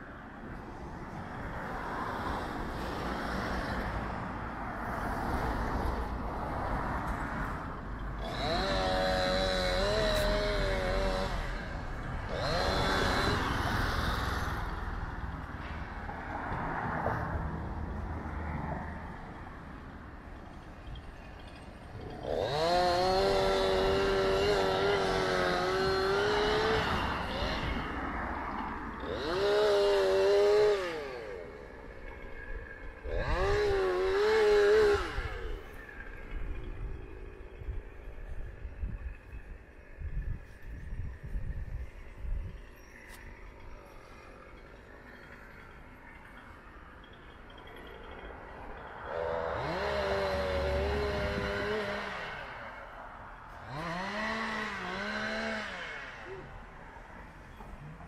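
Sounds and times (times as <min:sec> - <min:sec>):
distant traffic: 0:00.0 - 0:58.0
small engine revving: 0:04.8 - 0:17.4, 0:20.5 - 0:58.0.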